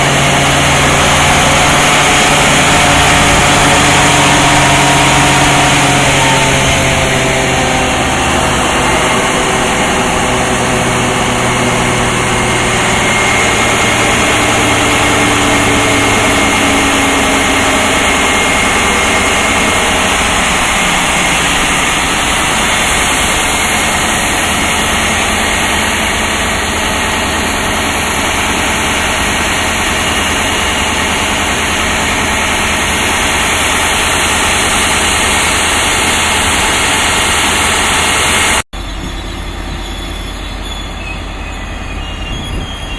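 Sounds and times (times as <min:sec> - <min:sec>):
diesel locomotive engine running: 0:00.0 - 0:42.9.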